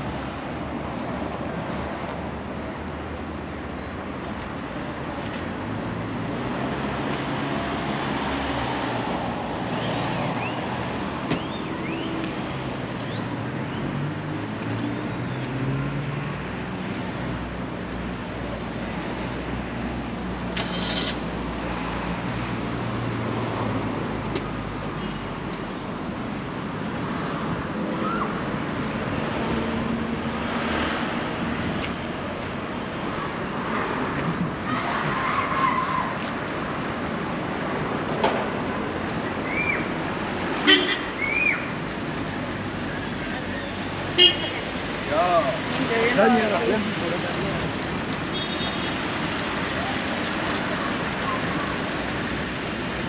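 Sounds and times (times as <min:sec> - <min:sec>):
cars driving past: 0:05.2 - 0:53.0.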